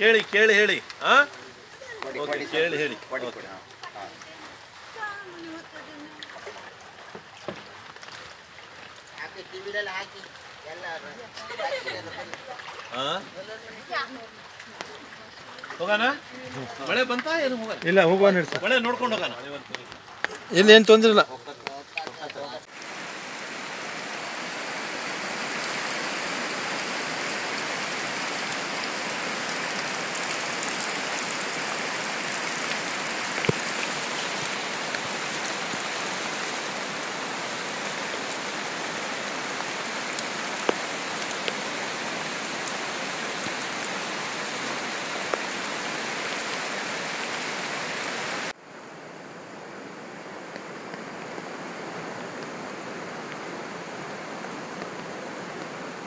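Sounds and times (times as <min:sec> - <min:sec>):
floodwater running: 0:00.0 - 0:48.6
heavy rain: 0:00.0 - 0:56.0.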